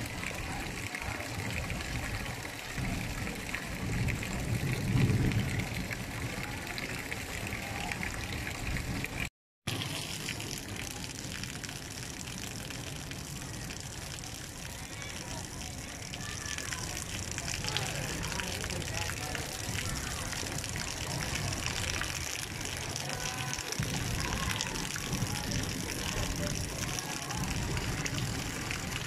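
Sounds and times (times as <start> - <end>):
rain falling on a street: 0.0 - 29.0.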